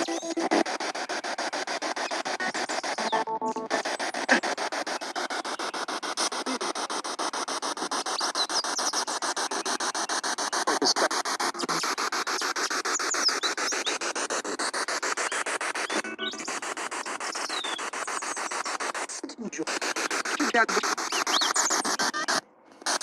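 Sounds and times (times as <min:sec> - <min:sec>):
fragments of broadcast tones: 0:00.0 - 0:23.0
radio static sweeping in bursts: 0:00.0 - 0:23.0.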